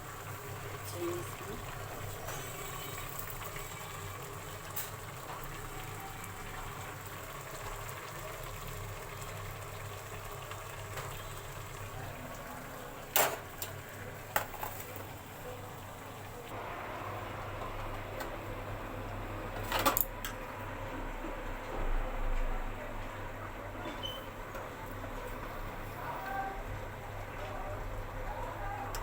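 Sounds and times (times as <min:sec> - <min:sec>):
pot simmering and bubbling: 0:00.0 - 0:29.0.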